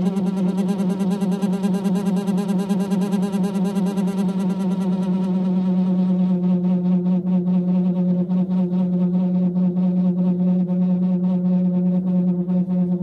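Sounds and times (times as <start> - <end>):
low electronic drone: 0.0 - 13.0.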